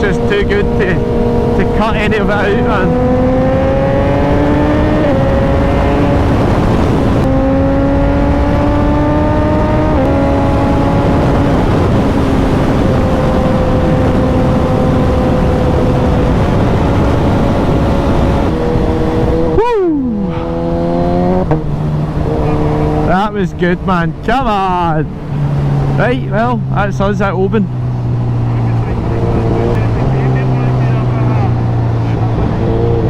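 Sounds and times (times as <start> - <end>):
motorcycle engine accelerating: 0.0 - 33.0
wind noise: 0.0 - 33.0.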